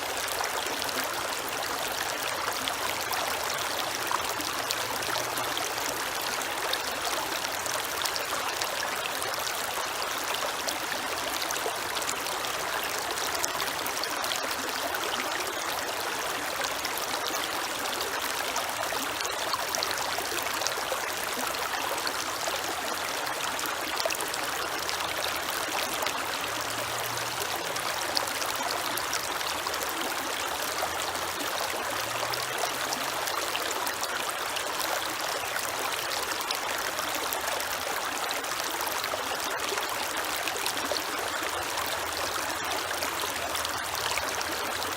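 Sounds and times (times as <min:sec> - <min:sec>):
creek water flowing: 0:00.0 - 0:44.9.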